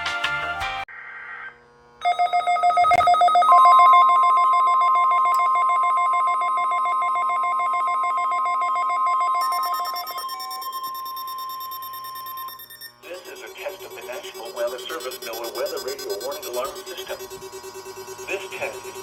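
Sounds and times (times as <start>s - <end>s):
steady warning tone: 2.0s - 19.0s
rapid pulsing electronic beeping: 2.1s - 19.0s.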